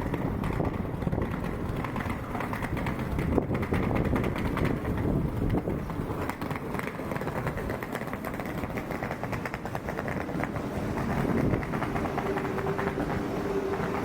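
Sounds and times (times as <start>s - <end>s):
rapid rail clicks: 0.0s - 14.0s
train rumbling over rails: 0.0s - 14.0s.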